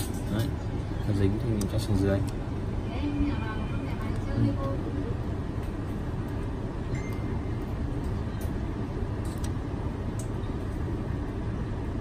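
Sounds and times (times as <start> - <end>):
low background rumble: 0.1 - 12.0.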